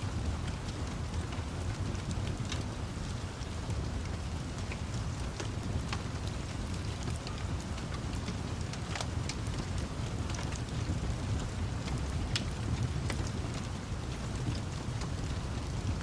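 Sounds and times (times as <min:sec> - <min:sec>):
low rumble of thunder: 0:00.0 - 0:16.0
steady rain: 0:00.0 - 0:16.0
wood fire crackling: 0:00.0 - 0:16.0.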